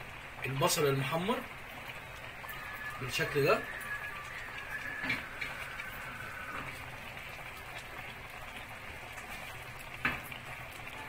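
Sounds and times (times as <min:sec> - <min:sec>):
pot bubbling: 0:00.0 - 0:11.0.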